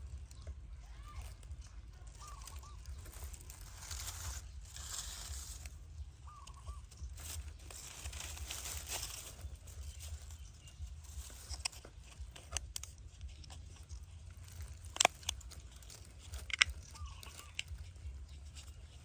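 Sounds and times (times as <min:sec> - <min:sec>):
rustling handling noise: 0:00.0 - 0:19.0
steady low hum: 0:00.0 - 0:19.0
baby monkey squeaking: 0:00.1 - 0:19.0.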